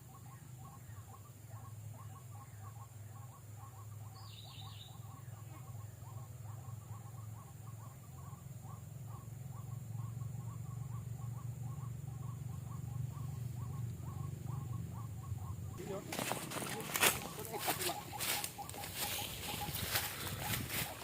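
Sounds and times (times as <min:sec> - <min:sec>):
low steady hum: 0:00.0 - 0:21.0
waterhen calling: 0:00.0 - 0:21.0.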